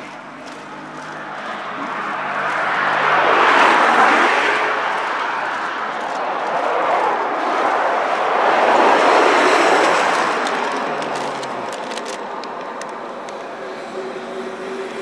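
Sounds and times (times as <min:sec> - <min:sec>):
bus road and engine noise: 0:00.0 - 0:15.0.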